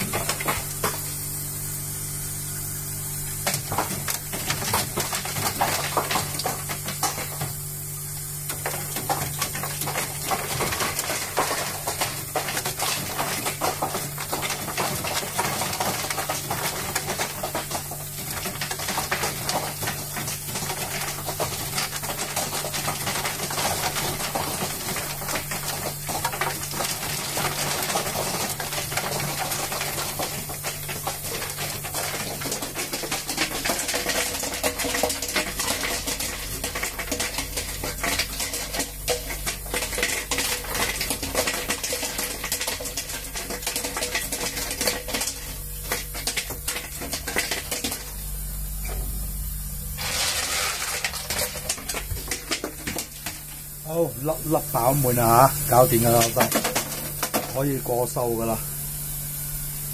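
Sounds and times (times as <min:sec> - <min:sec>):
ice cubes clattering into bin: 0:00.0 - 0:01.1, 0:03.3 - 0:49.0, 0:49.9 - 0:58.6
ice machine hum: 0:00.0 - 0:59.9.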